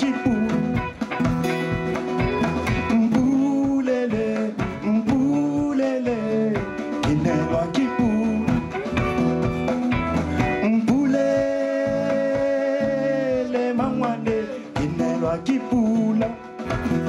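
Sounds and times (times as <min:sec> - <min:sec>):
bass: 0:00.0 - 0:03.8, 0:04.6 - 0:17.0
drums: 0:00.0 - 0:17.0
guitar: 0:00.0 - 0:17.0.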